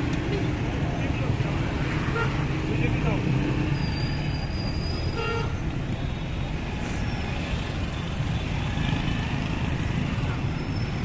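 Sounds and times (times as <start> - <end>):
busy road traffic: 0.0 - 11.0.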